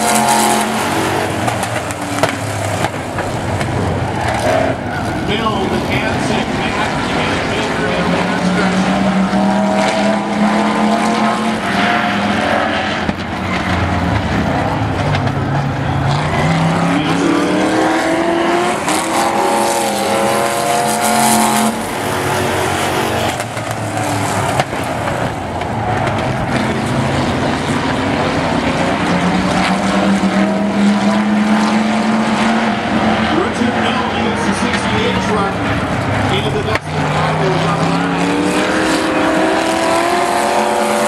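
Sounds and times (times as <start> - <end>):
truck engines racing and revving: 0.0 - 41.0.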